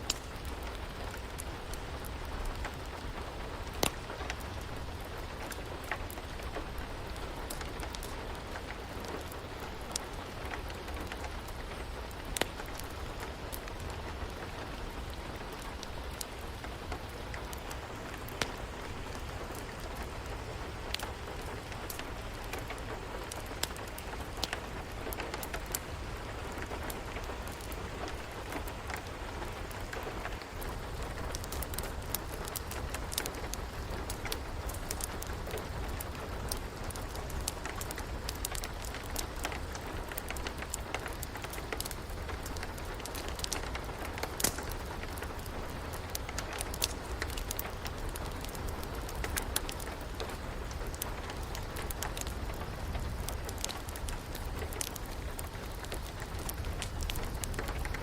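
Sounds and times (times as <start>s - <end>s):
steady rain falling: 0.0s - 58.0s
wood fire crackling: 0.0s - 58.0s.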